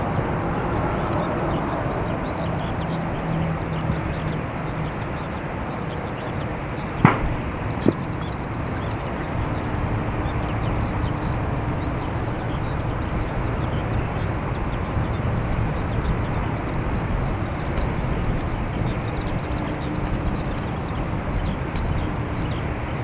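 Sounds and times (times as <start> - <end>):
airliner low rumble: 0.0 - 23.0.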